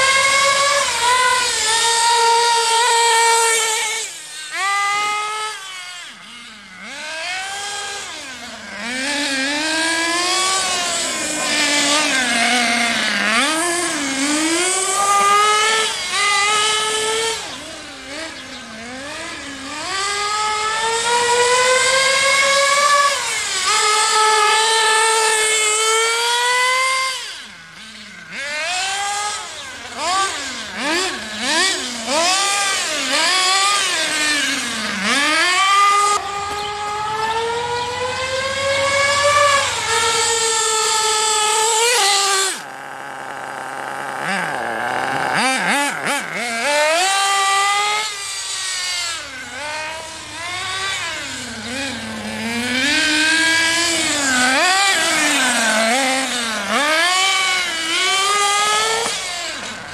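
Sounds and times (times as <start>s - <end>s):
nitro buggy engine revving: 0.0s - 59.9s.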